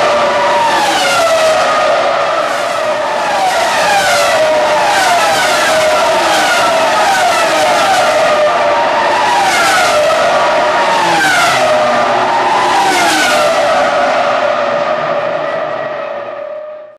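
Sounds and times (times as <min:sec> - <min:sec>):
race cars passing at speed: 0:00.0 - 0:16.9.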